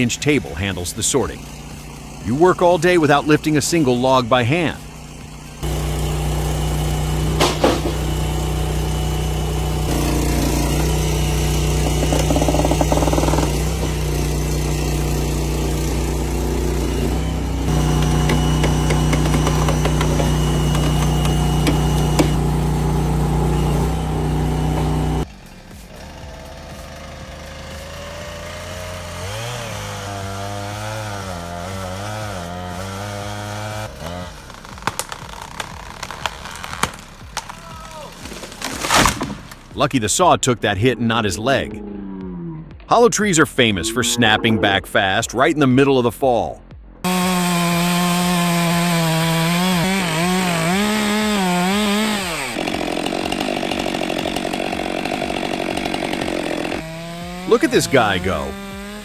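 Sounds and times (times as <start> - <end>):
chainsaw engine cutting: 0.0 - 39.8, 47.0 - 59.0.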